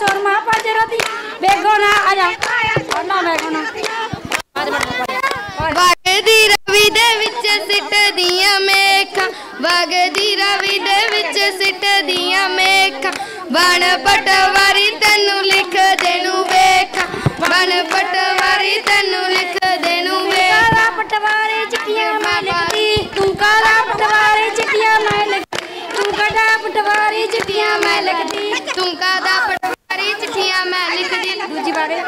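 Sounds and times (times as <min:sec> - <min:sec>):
women singing folk song: 0:00.0 - 0:32.0.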